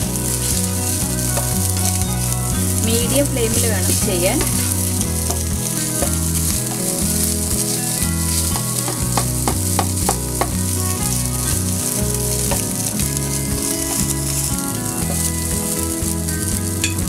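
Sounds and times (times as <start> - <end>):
rice sizzling in oil: 0.0 - 17.0
spatula scraping and knocking pan: 0.0 - 17.0.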